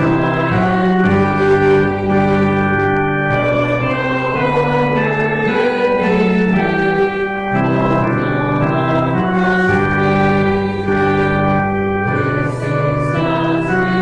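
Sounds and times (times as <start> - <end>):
organ playing a hymn: 0.0 - 14.0.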